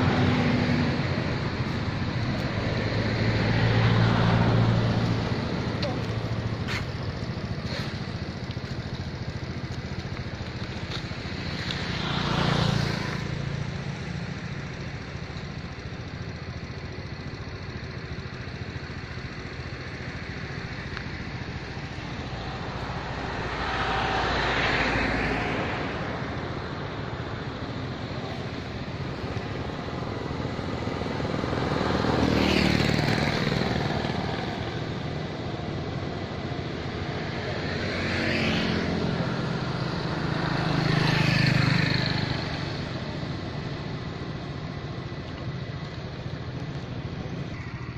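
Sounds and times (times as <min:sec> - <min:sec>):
outdoor background hum: 0:00.0 - 0:47.9
vehicles passing by: 0:00.0 - 0:47.9.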